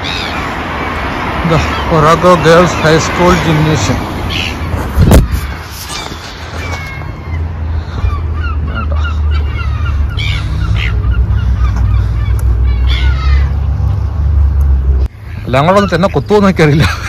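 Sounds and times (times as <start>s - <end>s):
ducks calling: 0.0s - 17.0s.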